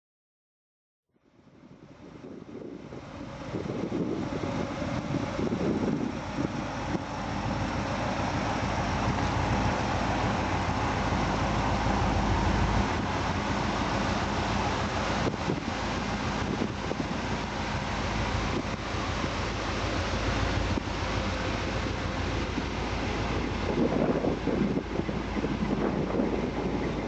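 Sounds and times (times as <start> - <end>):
car engine idling: 1.2 - 27.0.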